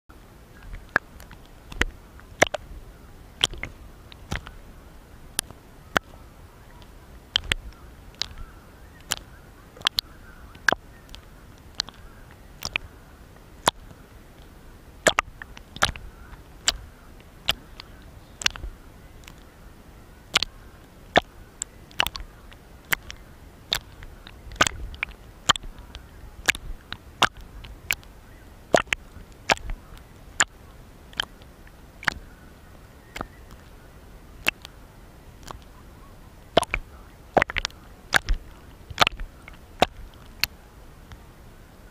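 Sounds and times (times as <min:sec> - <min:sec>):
low rumble of moving water: 0:00.1 - 0:41.9
waves tapping on camera housing: 0:00.5 - 0:19.6, 0:20.2 - 0:41.3.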